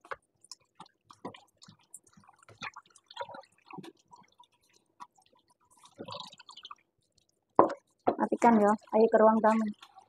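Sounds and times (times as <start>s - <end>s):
water dripping in sink: 0.0s - 10.0s.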